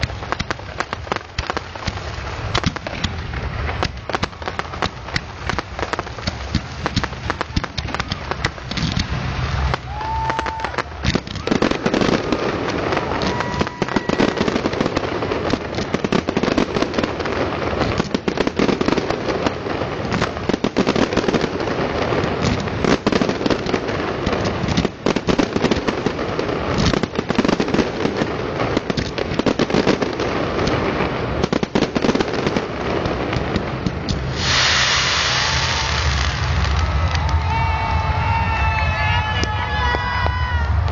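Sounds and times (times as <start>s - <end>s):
fireworks cracking and popping: 0.0s - 40.9s
steady rush of noise: 0.0s - 40.9s.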